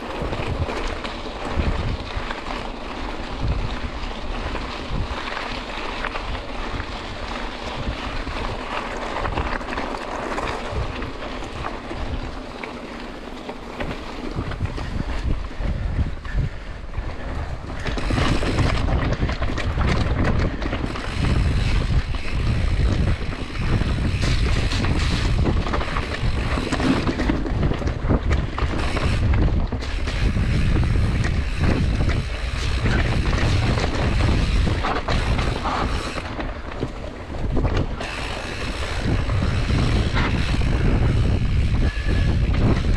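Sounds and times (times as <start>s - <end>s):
wind buffeting microphone: 0.0s - 12.4s, 13.7s - 42.9s
bike rattling over bumps: 0.0s - 42.9s
tyres rumbling over dirt: 0.0s - 42.9s.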